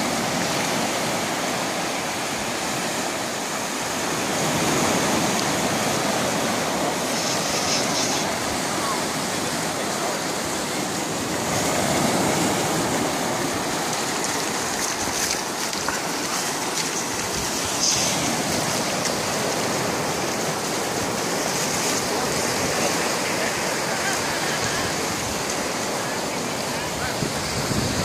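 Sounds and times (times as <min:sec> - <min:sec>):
ocean waves breaking on beach: 0:00.0 - 0:28.0.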